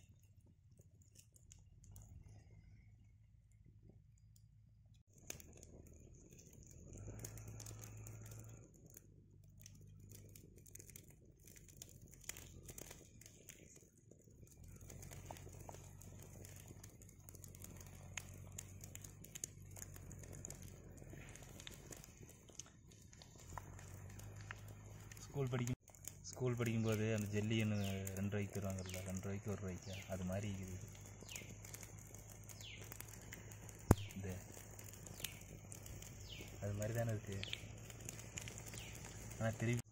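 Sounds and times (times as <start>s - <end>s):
small oil pops: 5.0s - 39.9s.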